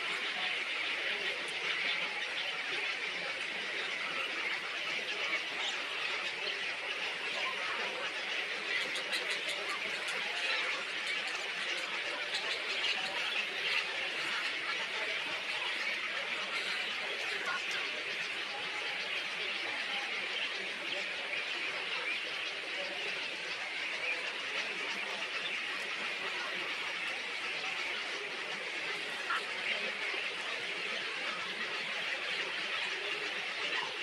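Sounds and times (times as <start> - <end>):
many small birds chattering: 0.0 - 34.0.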